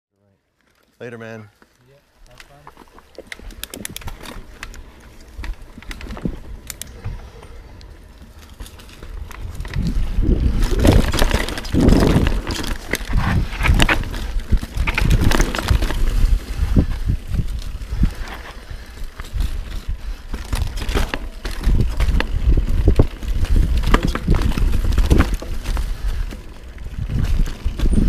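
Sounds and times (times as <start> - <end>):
bike clattering over rocks: 2.4 - 7.4, 8.3 - 28.0.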